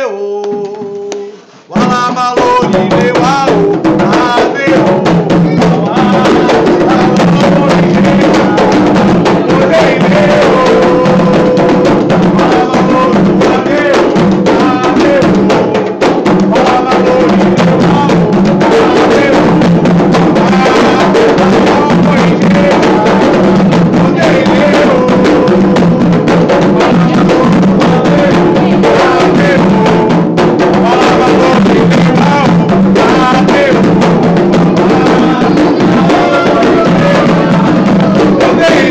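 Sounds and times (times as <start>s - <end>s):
hand drums beating: 0.0s - 38.9s
voices singing a chant: 0.0s - 38.9s.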